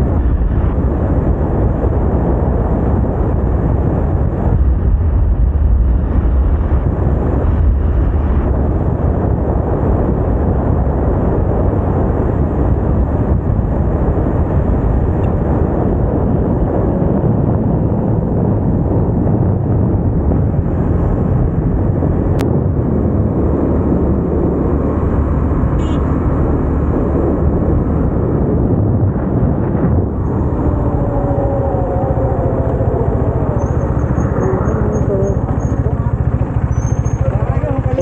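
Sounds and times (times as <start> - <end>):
motorcycle engine: 0.0 - 38.0
wind rush on microphone: 0.0 - 38.0.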